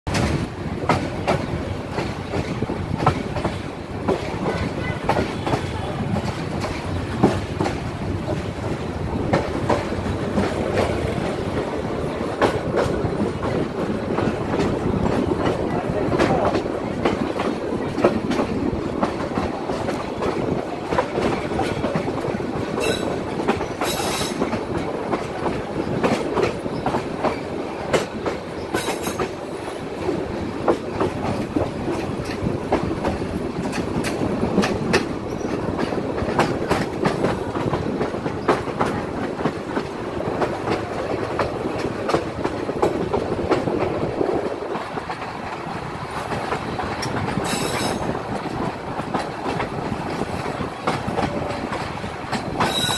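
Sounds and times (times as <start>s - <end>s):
clacks over rail joints: 0.1s - 52.9s
train wheels rumbling on rail: 0.1s - 52.9s.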